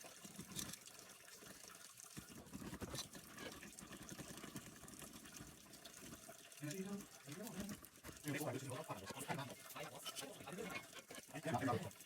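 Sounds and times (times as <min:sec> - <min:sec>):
faint running water: 0:00.0 - 0:12.0.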